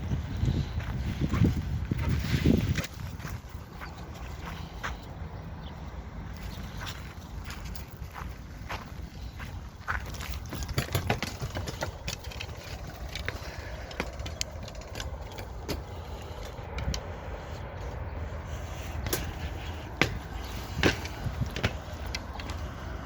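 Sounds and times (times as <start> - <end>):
low vehicle rumble: 0.0 - 23.0.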